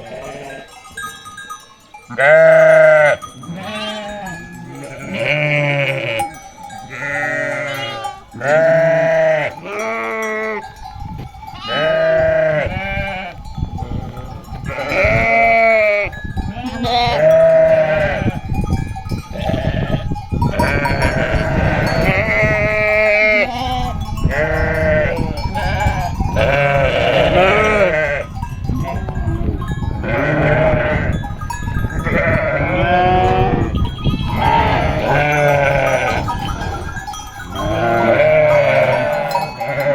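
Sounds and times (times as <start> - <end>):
sheep bleating: 0.0 - 0.7, 2.2 - 10.7, 11.6 - 18.4, 19.3 - 31.2, 32.0 - 39.9.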